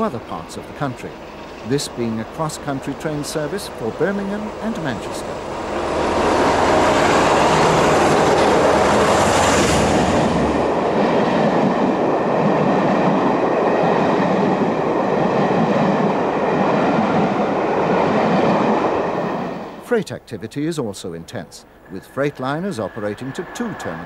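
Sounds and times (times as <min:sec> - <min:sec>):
train wheels rushing on rail: 0:00.0 - 0:19.8, 0:21.8 - 0:24.0
deep train rumble: 0:00.0 - 0:20.0, 0:21.3 - 0:24.0.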